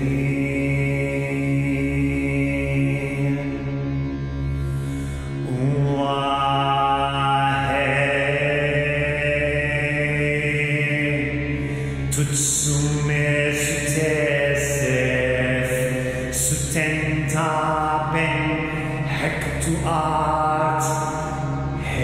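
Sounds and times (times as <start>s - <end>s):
man chanting: 0.0s - 3.8s, 5.4s - 22.0s
low drone: 0.0s - 22.0s.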